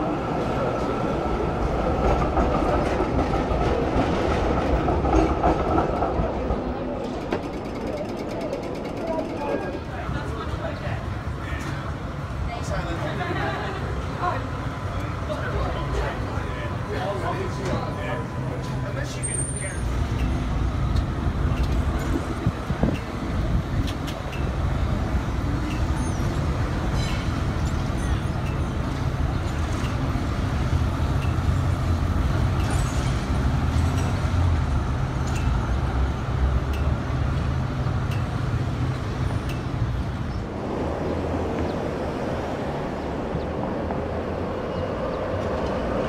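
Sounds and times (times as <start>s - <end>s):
city street traffic: 0.0s - 46.0s
tram motor and wheel hum: 0.0s - 46.0s.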